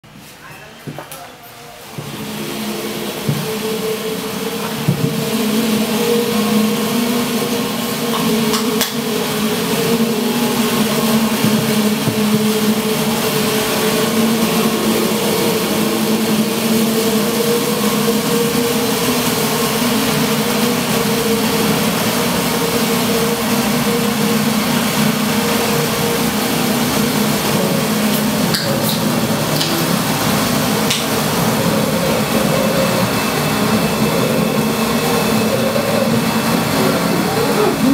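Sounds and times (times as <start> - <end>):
noisy electronic drone: 2.2 - 37.9.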